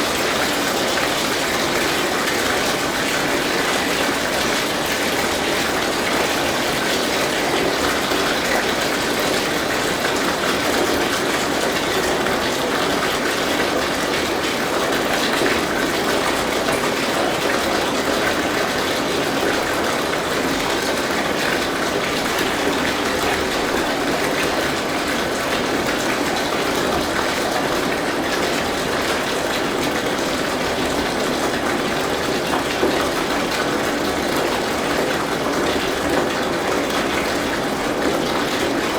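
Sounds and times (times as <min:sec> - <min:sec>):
tap water pouring into tub: 0:00.0 - 0:38.9.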